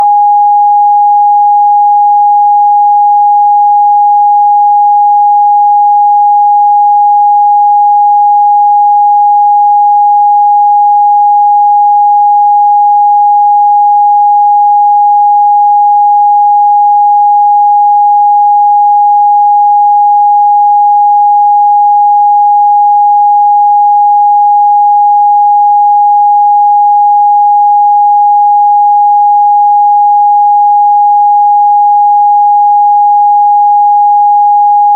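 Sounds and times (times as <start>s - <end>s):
sine-wave test tone: 0.0s - 34.9s.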